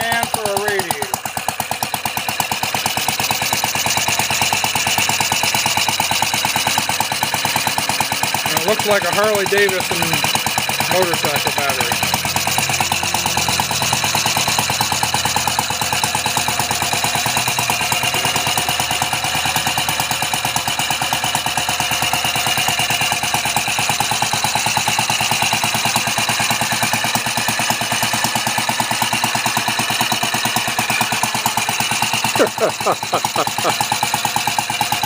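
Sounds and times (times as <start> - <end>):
small engine popping rapidly: 0.0 - 35.0.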